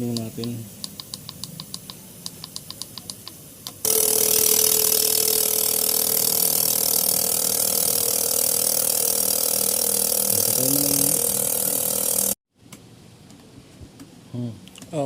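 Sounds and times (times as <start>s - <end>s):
fuel injectors clicking: 0.1s - 12.4s.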